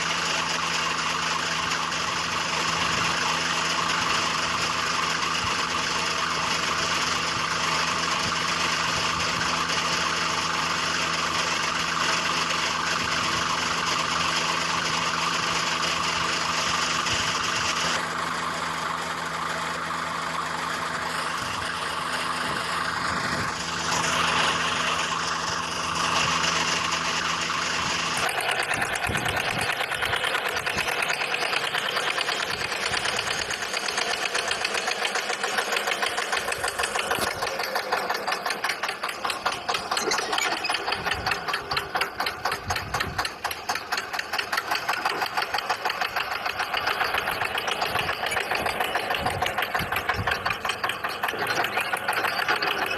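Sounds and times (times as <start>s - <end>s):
diesel engine knocking drone: 0.0s - 52.9s.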